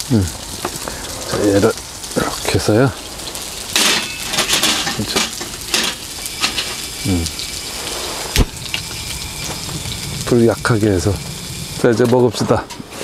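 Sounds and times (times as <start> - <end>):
oil crackling flare-ups: 0.0 - 13.0
pancakes sizzling in oil: 0.0 - 13.0.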